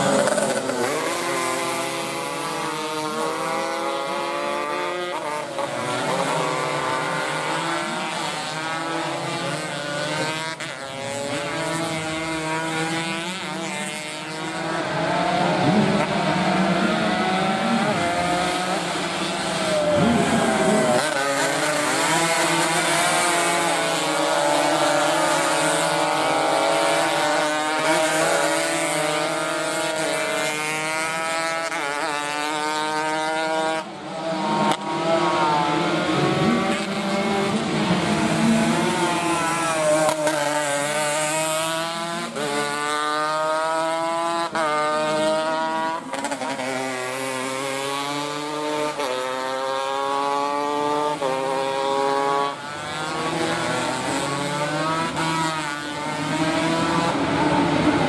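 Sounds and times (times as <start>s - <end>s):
racing motorcycles revving: 0.0s - 58.0s.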